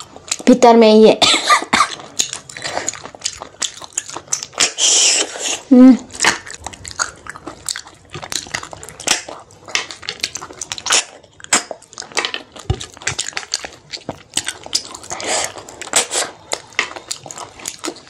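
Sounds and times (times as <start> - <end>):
wet chewing: 0.0 - 0.6, 1.4 - 18.0
lip smacks: 1.8 - 18.0.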